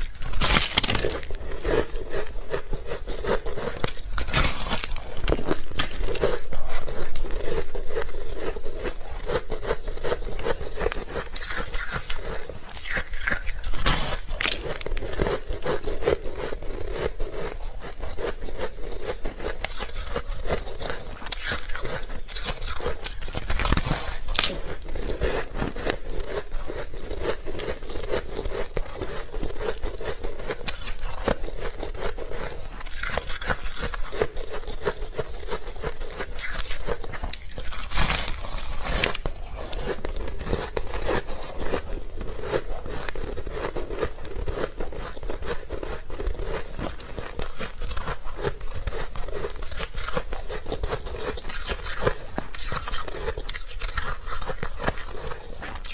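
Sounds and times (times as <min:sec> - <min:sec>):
ice crunching while chewing: 0:00.0 - 0:55.9.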